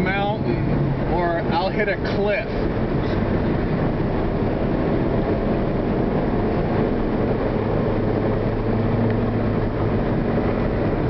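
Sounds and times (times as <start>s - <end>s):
car engine hum: 0.0s - 11.0s
road noise inside car: 0.0s - 11.0s.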